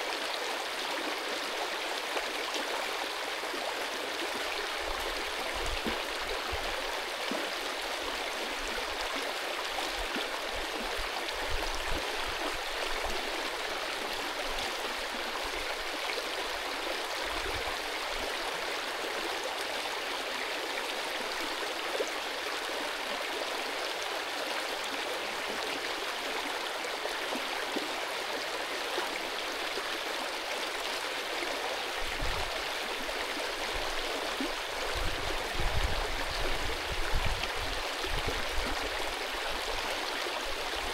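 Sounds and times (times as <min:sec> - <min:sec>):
stream rushing and gurgling: 0:00.0 - 0:40.9.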